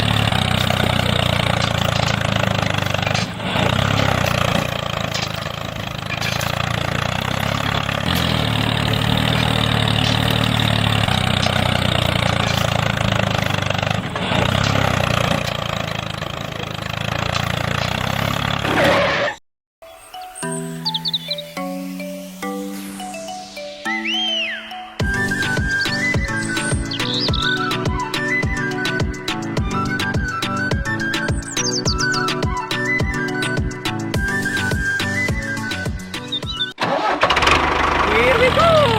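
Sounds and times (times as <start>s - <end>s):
engine running: 0.0s - 19.4s, 25.0s - 38.9s.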